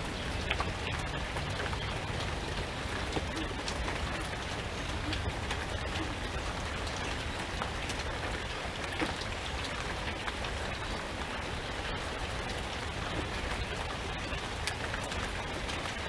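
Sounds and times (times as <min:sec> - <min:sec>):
rain drops ticking on a surface: 0:00.0 - 0:16.0.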